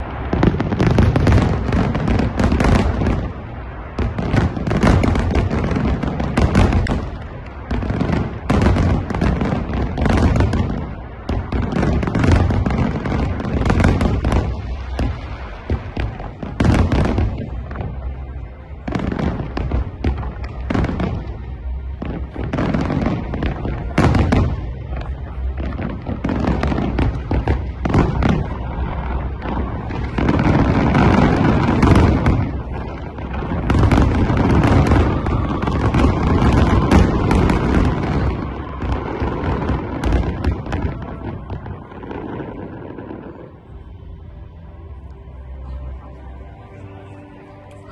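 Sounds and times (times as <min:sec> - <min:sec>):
fireworks bangs: 0:00.0 - 0:45.0.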